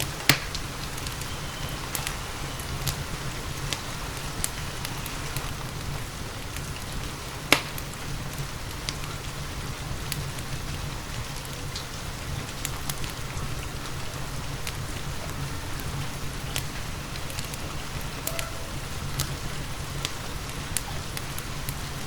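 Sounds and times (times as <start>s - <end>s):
fire popping: 0.0s - 22.0s
steady rain: 0.0s - 22.0s
wood fire crackling: 0.0s - 22.0s.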